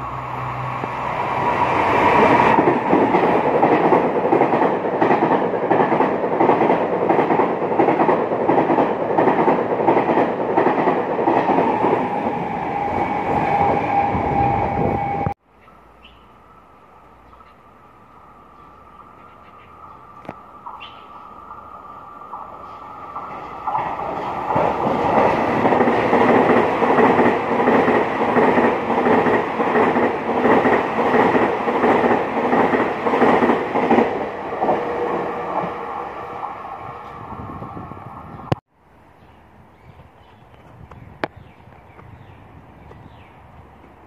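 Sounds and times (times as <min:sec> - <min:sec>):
electric train passing: 0:00.0 - 0:39.6.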